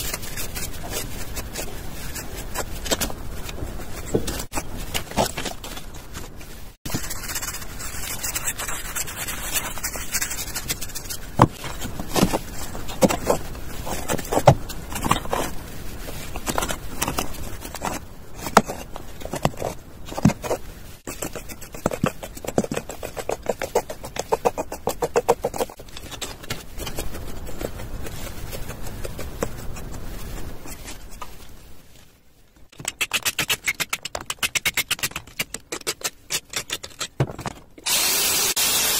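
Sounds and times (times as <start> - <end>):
scraping and rubbing: 0.0 - 38.1.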